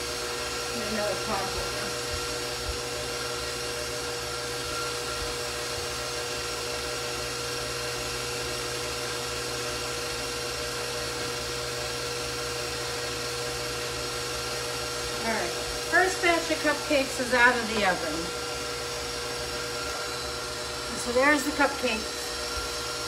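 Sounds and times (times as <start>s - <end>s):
stand mixer motor whine: 0.0s - 23.0s.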